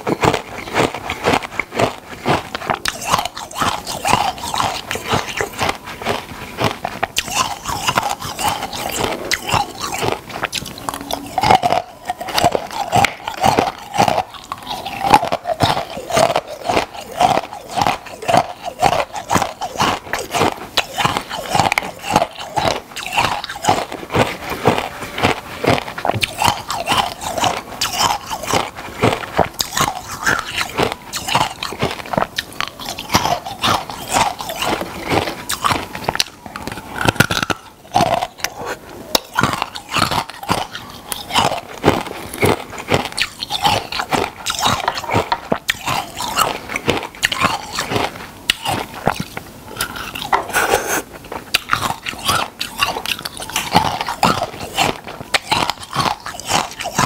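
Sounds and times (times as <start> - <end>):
crunchy food chewing: 0.0 - 57.0.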